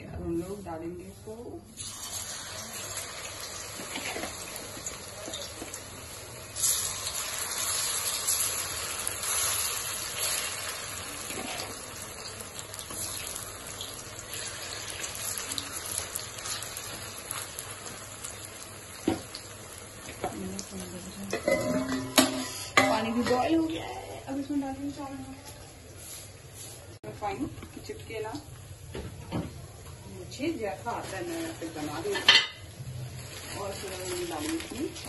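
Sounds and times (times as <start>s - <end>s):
food sizzling in hot oil: 1.1s - 25.3s, 30.3s - 35.0s.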